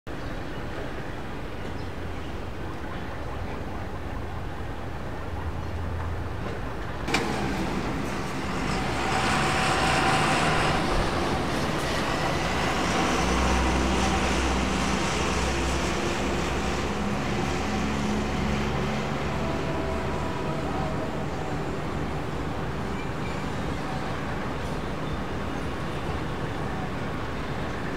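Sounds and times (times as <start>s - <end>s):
jet engines rumbling and whining: 3.1s - 27.9s.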